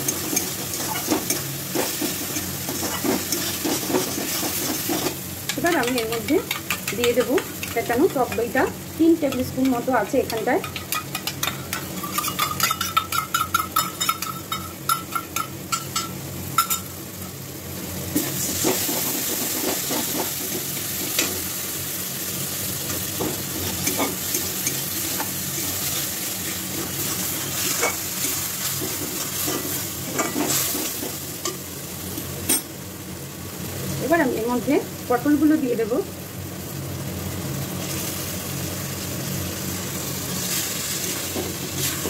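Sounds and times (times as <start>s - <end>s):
masala sizzling: 0.0s - 42.0s.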